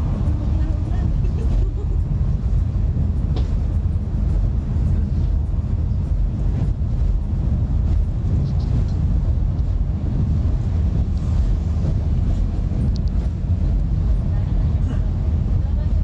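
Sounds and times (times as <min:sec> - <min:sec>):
bus engine rumble: 0:00.0 - 0:16.0
tyres on the road: 0:00.0 - 0:16.0.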